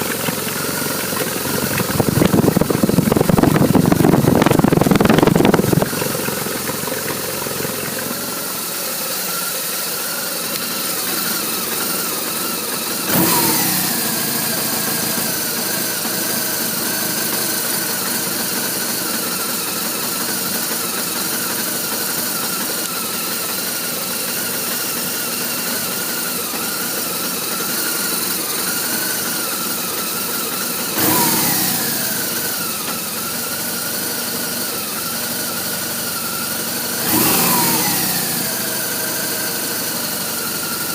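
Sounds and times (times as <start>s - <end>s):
motorcycle engine idling roughly: 0.0s - 40.9s.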